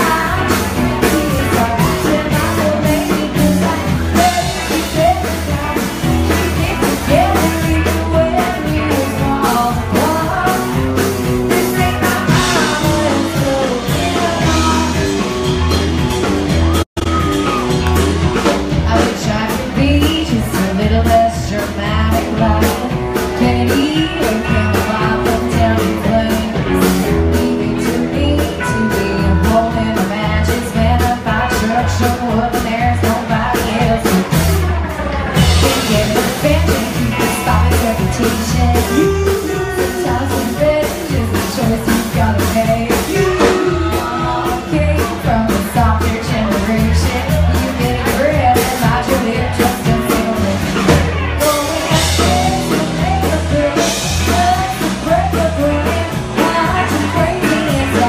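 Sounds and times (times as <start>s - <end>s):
woman singing lead: 0.0s - 15.8s, 17.1s - 58.0s
live country-rock band playing: 0.0s - 58.0s.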